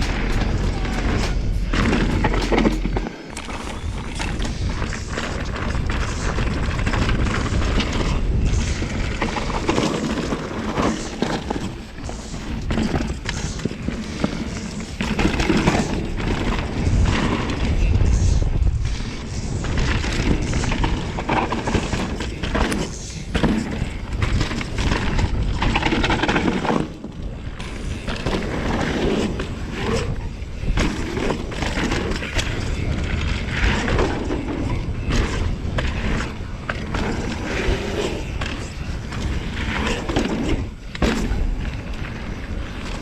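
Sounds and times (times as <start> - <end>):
bike knocking and rattling: 0.0 - 43.0
bike tyres rolling on dirt: 0.0 - 43.0.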